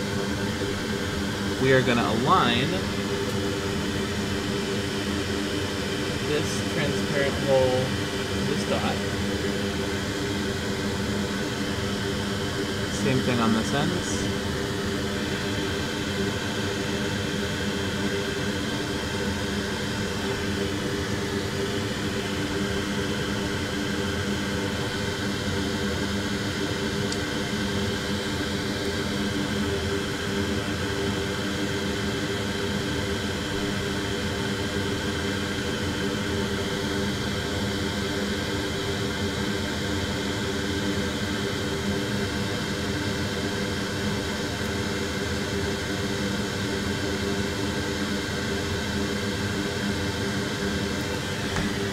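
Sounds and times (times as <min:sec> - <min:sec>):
electric fan whirring: 0:00.0 - 0:51.9.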